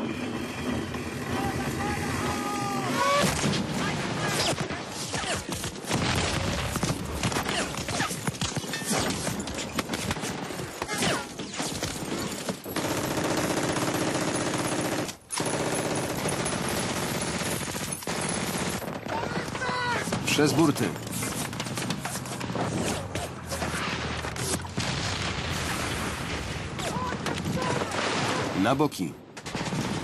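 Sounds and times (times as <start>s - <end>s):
machine-gun and rifle fire: 0.6s - 28.5s, 29.4s - 30.0s.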